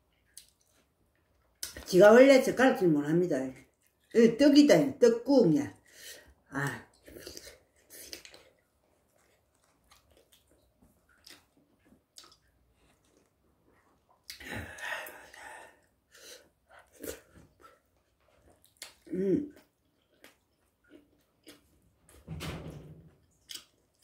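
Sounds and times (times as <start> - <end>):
person chewing food: 0.0 - 1.8, 3.6 - 4.2, 5.8 - 22.2, 23.2 - 24.0.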